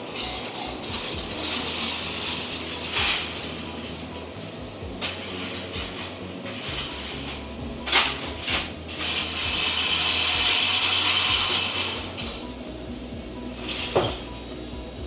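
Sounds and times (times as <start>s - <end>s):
steady hiss: 0.0s - 14.4s.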